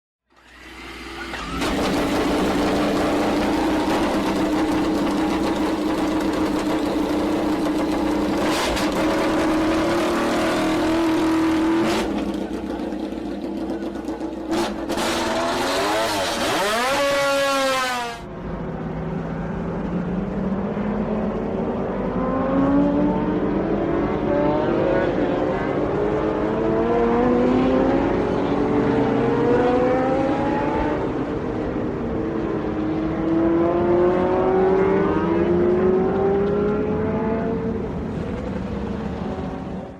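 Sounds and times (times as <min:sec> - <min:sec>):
racing motorcycle engine revving: 0:00.5 - 0:18.3, 0:20.7 - 0:38.0.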